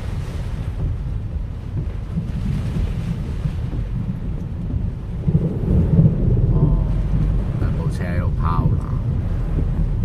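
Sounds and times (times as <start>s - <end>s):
heavy rain: 0.0s - 10.0s
low rumbling noise: 0.0s - 10.0s
strong wind buffeting microphone: 0.0s - 10.0s.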